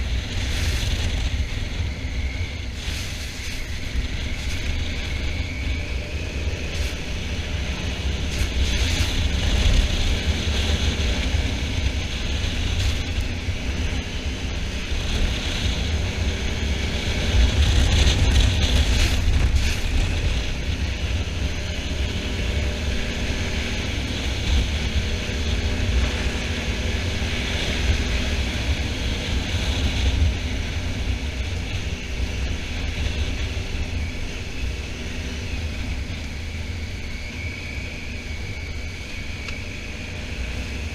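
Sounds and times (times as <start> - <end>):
motorcycle engine riding: 0.0 - 40.9
wind rushing on microphone: 0.0 - 40.9.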